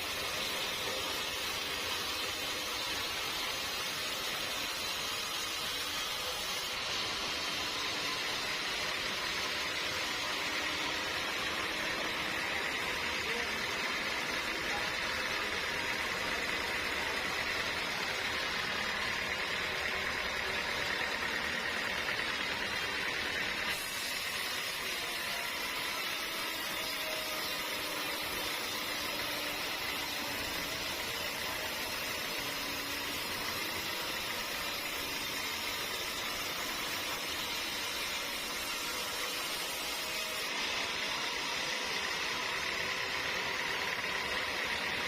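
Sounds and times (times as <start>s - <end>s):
band sawmill running: 0.0s - 45.0s.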